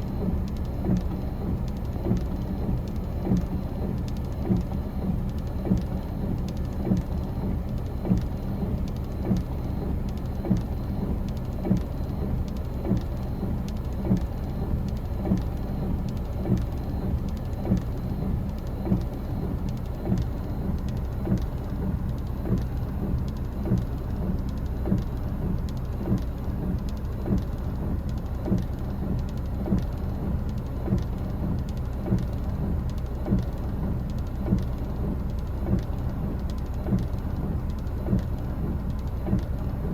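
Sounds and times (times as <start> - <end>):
faint ticks: 0.0 - 39.9
regular soft beat: 0.0 - 39.9
wind and rain rumble: 0.0 - 39.9.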